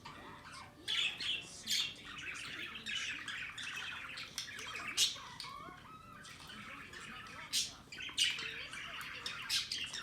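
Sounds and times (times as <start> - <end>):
birds chattering rapidly: 0.0 - 10.0
birds squawking: 0.0 - 10.0.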